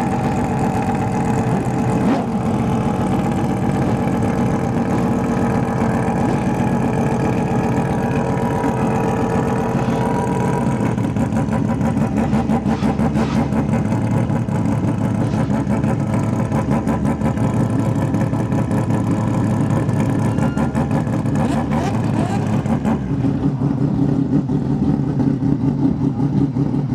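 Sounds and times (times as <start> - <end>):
racing car engine idling: 0.0 - 26.9.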